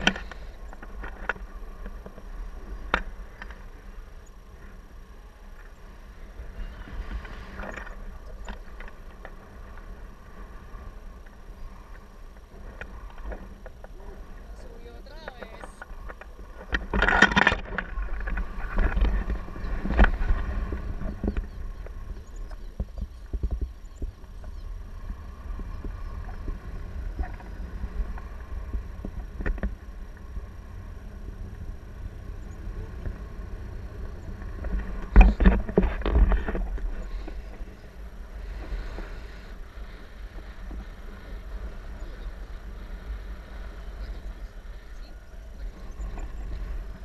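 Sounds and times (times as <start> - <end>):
wind buffeting microphone: 5.2 - 47.0.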